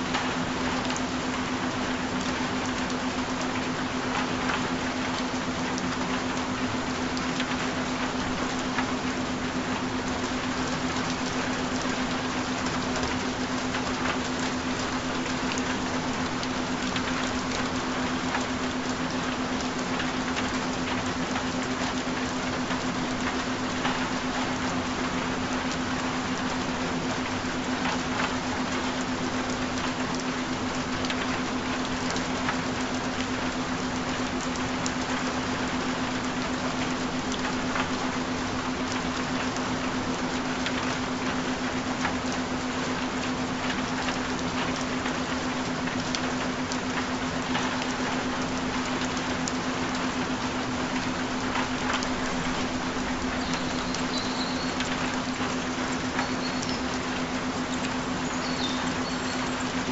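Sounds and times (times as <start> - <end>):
rain hiss with drop ticks: 0.0 - 59.9.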